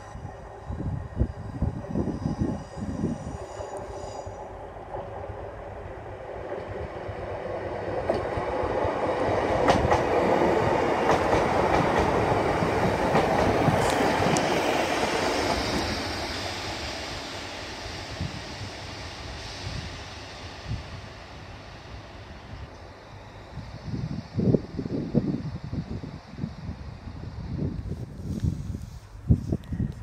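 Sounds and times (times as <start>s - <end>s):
diesel train passing: 0.0s - 30.0s.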